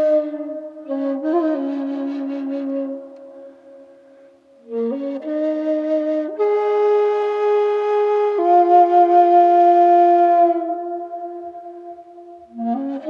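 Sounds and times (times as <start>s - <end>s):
slow flute melody: 0.0s - 13.0s.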